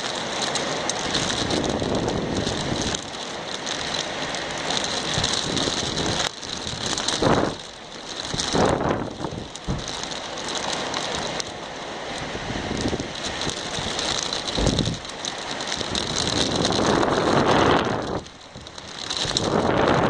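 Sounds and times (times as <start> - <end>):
rain hiss: 0.0 - 20.0
wind buffeting microphone: 1.0 - 3.2, 3.8 - 11.5, 12.2 - 20.0.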